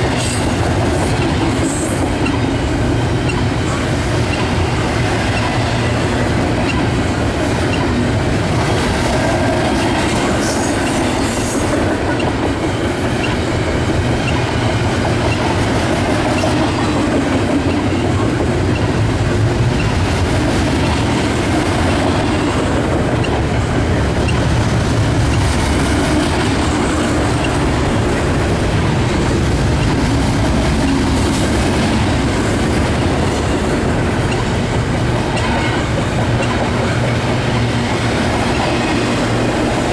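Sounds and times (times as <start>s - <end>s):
train wheels clacking over rails: 0.0s - 39.9s.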